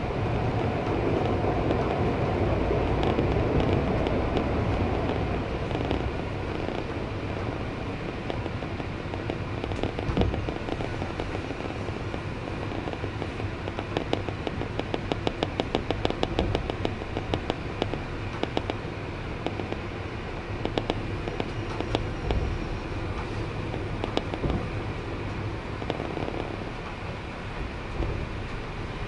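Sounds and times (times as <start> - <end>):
train rumbling on track: 0.0 - 29.0
wheels clicking on rails: 0.0 - 29.0.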